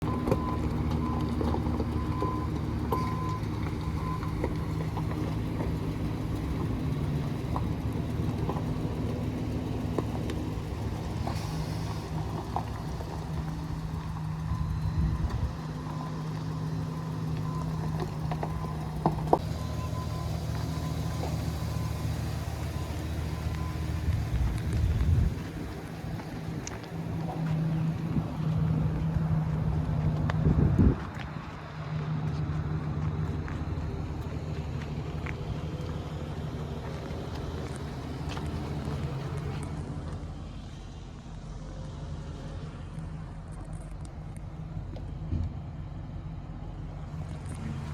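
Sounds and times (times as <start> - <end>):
pickup truck engine idling: 0.0 - 47.9.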